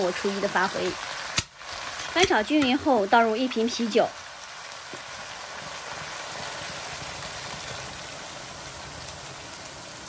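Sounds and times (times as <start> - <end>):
sauce bubbling and fizzing in a wok: 0.0 - 10.0.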